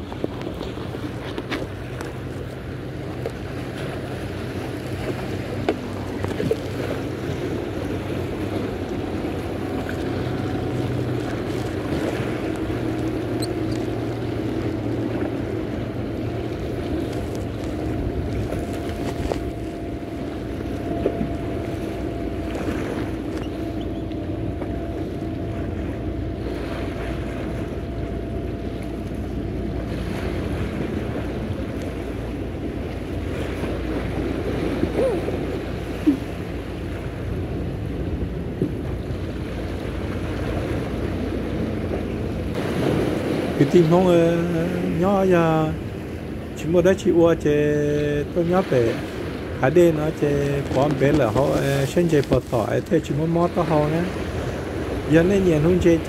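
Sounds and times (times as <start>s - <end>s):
motorboat engine running: 0.0s - 56.0s
waves washing against rocks: 0.0s - 56.0s.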